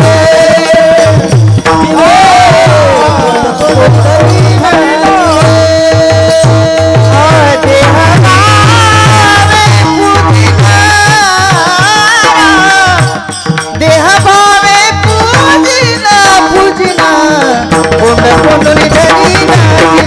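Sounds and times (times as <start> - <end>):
person singing: 0.0 - 20.0.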